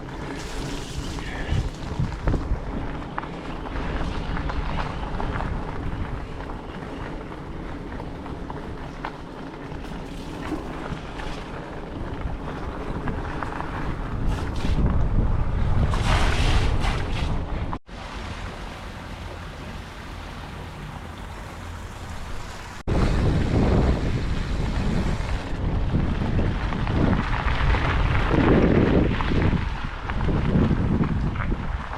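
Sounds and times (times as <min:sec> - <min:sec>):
wind buffeting microphone: 0:00.0 - 0:17.8, 0:20.6 - 0:31.9.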